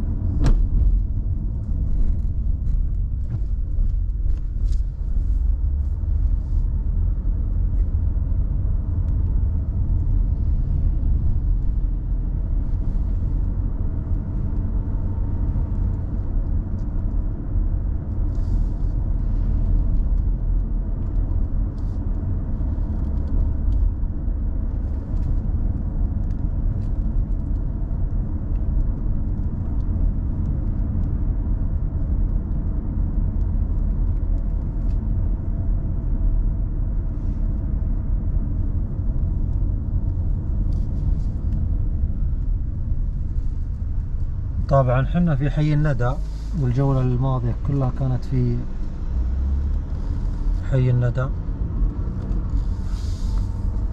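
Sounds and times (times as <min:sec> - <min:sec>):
car road and engine rumble: 0:00.0 - 0:53.9.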